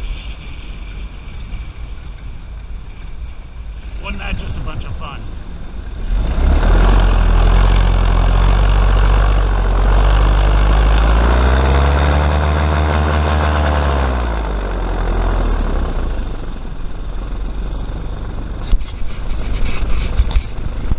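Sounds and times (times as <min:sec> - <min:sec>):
airboat engine and propeller: 0:00.0 - 0:20.9.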